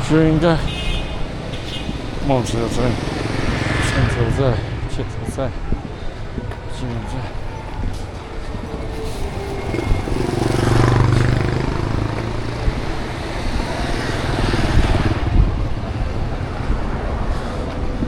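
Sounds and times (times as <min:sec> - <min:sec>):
street traffic: 0:00.0 - 0:18.0
motorbike engine passing: 0:01.1 - 0:05.8, 0:08.1 - 0:18.0.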